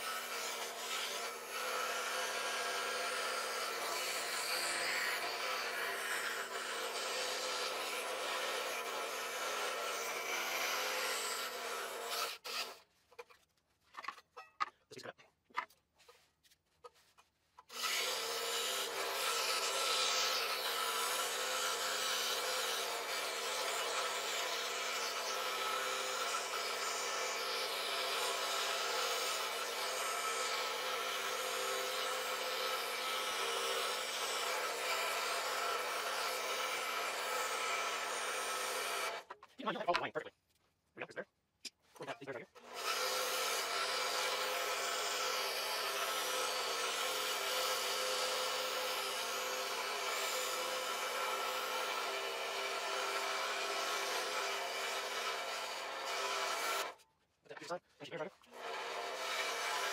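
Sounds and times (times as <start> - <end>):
scroll saw cutting wood: 0.0 - 13.4, 16.9 - 40.0, 42.0 - 57.0, 57.6 - 59.9.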